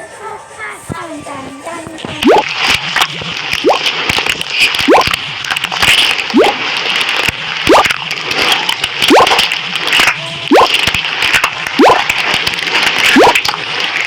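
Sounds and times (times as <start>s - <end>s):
slime squelching: 0.9s - 14.0s.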